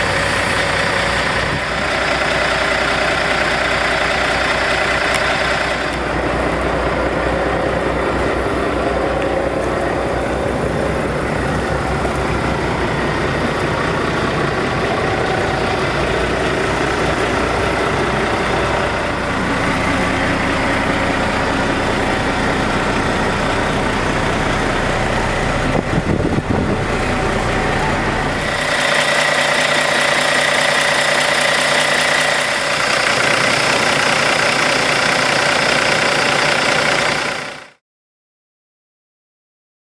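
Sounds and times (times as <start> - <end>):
diesel engine idling: 0.0 - 37.8.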